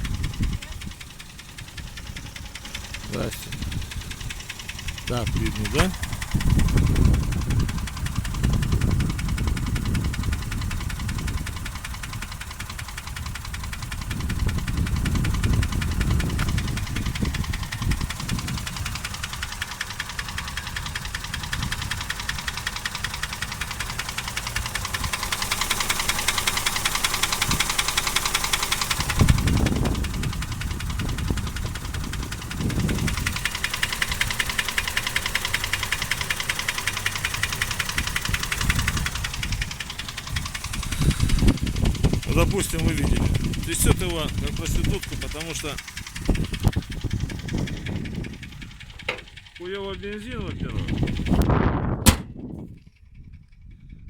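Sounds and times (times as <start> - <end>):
engine idling with rapid knock: 0.0 - 54.0.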